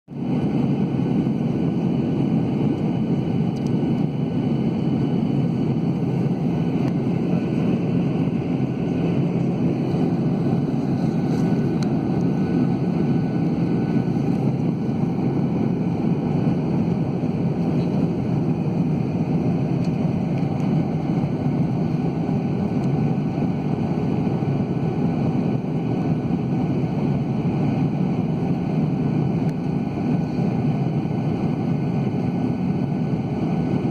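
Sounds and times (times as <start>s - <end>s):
airflow over fuselage: 0.1s - 33.9s
jet engines roaring: 0.1s - 33.9s.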